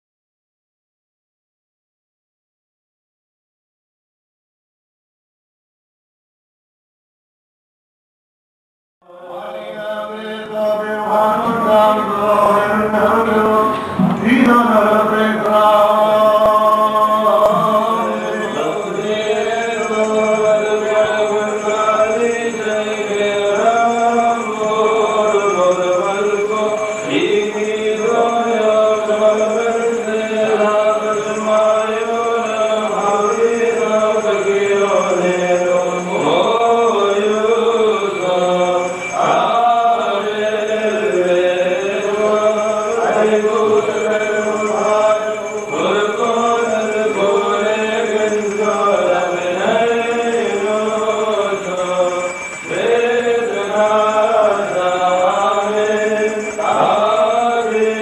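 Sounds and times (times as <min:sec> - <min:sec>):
voices singing slow chant: 0:09.1 - 0:58.0.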